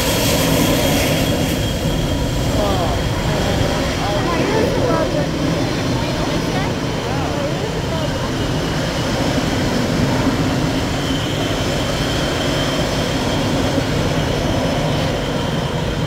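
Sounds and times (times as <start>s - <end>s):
high whine: 0.0s - 14.2s
jet engines rushing: 0.0s - 16.0s.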